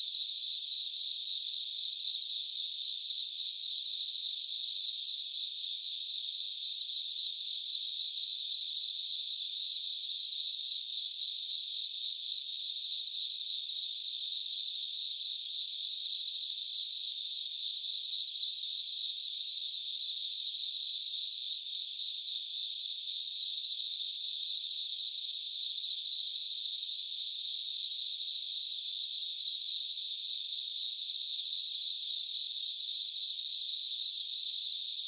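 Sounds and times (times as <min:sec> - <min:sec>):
night insects chorus: 0:00.0 - 0:35.0.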